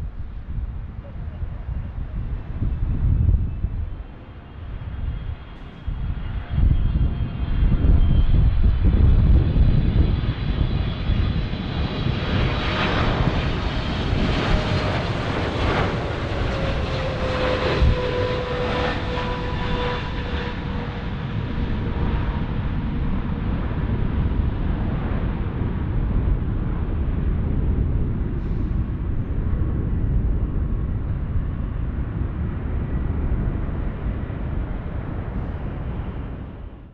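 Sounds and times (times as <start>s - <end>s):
jet engines rumble and whine: 0.0s - 36.9s
wind buffeting microphone: 0.0s - 36.9s
jet landing roar: 0.1s - 36.9s.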